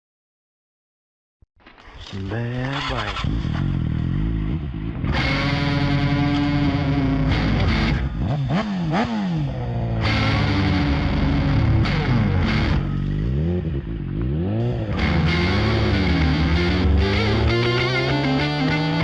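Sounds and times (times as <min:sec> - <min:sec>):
distorted electric guitar chords: 0:02.9 - 0:19.0.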